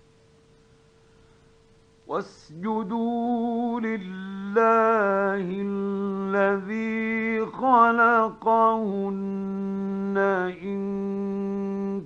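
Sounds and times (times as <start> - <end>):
man chanting melodically: 2.1 - 12.0.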